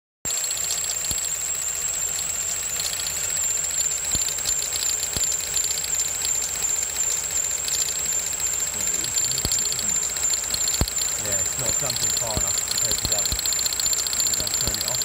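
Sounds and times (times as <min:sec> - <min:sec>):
misfiring car engine idling: 0:00.3 - 0:15.0
sharp clicks: 0:00.3 - 0:15.0
steady high whine: 0:00.3 - 0:15.0.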